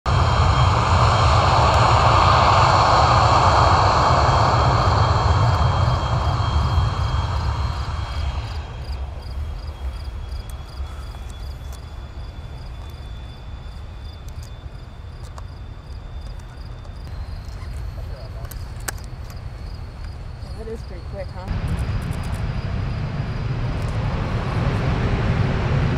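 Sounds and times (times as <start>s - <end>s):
jet engine running: 0.1s - 25.9s
steady high whine: 0.1s - 25.9s.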